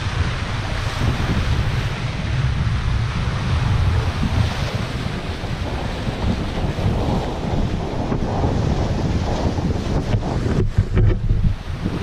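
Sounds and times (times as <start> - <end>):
sea water rushing past boat: 0.0 - 12.0
wind buffeting microphone: 0.0 - 12.0.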